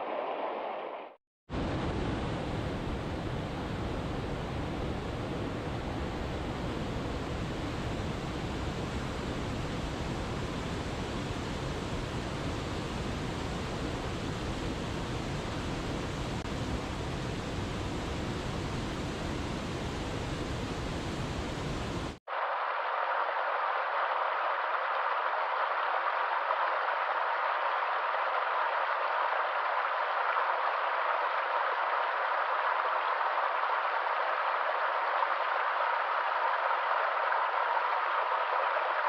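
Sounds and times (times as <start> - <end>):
rushing water roar: 1.6 - 39.0.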